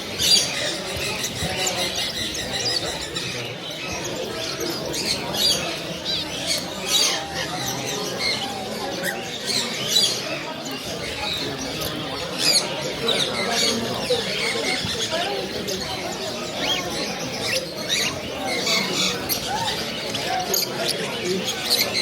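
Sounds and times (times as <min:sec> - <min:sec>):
caged birds chirping and squawking: 0:00.0 - 0:22.0.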